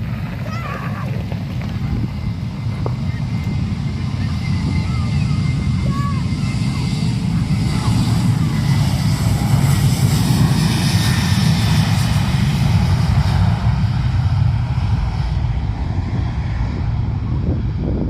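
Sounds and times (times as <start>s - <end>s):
airplane engines passing: 0.0s - 18.0s.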